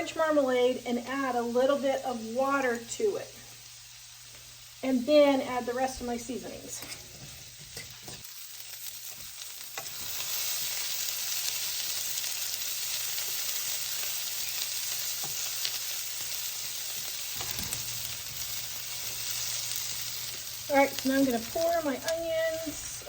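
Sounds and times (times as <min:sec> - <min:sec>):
onions sizzling in a pan: 0:00.0 - 0:23.0.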